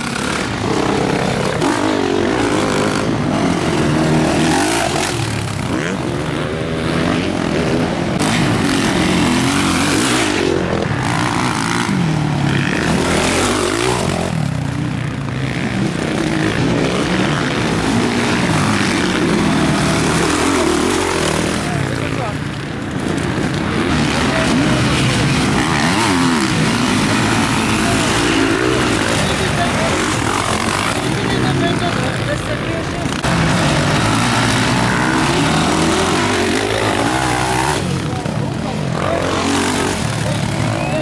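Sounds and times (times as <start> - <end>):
motocross bikes racing: 0.0 - 41.0.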